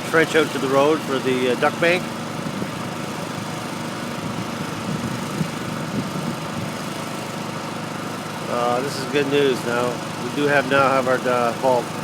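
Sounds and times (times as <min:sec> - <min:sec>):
heavy machinery engine running: 0:00.0 - 0:12.0.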